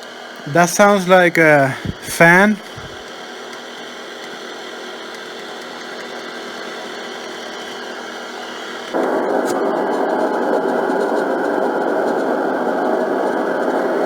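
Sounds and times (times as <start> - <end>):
white noise machine: 0.0 - 14.0.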